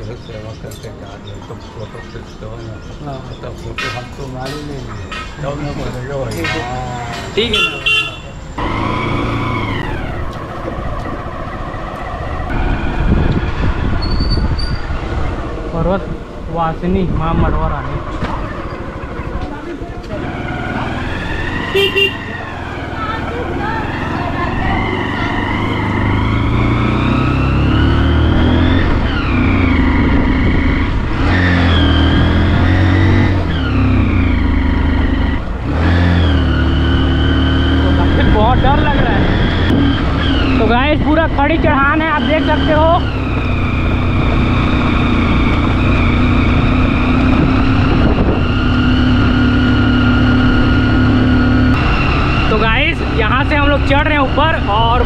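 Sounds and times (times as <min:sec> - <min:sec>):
vehicle engine whine: 0:00.0 - 0:55.0.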